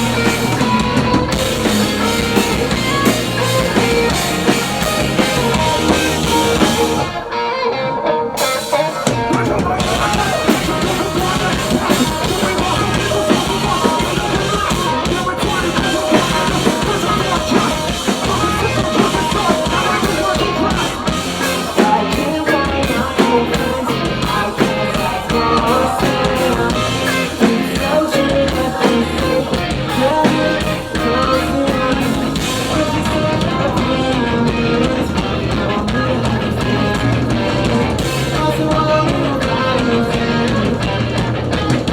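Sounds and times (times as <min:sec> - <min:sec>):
heavy rock band playing: 0:00.0 - 0:41.9.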